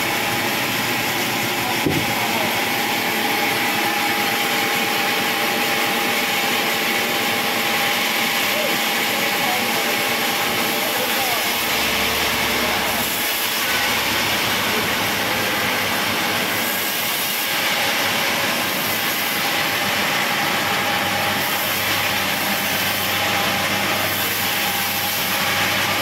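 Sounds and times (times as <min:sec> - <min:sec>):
saw cutting through log: 0:00.0 - 0:26.0.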